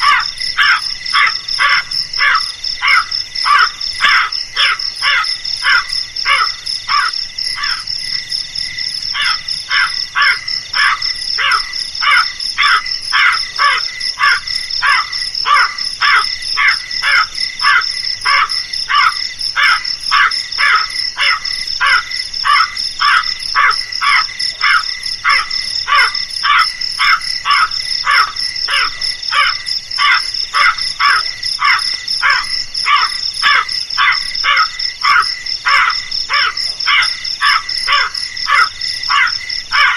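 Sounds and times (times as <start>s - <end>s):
crow cawing: 0.0s - 7.9s, 9.2s - 39.9s.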